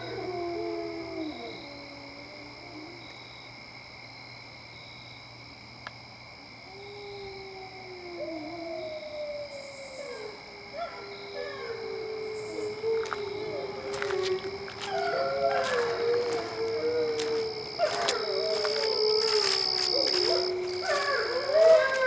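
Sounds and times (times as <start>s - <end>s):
wolves howling in chorus: 0.0s - 3.4s, 6.7s - 22.0s
insect trill: 0.0s - 22.0s.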